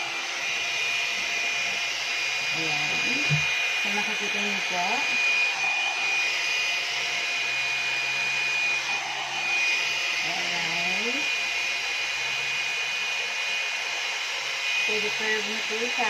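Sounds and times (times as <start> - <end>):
hair dryer brush blowing air: 0.0 - 16.0
high motor whine: 0.0 - 16.0.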